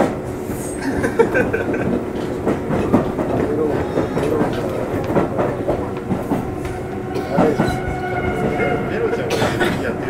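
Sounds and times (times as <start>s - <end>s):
train wheels clicking over rail joints: 0.0s - 8.6s
steady train hum: 0.0s - 10.0s.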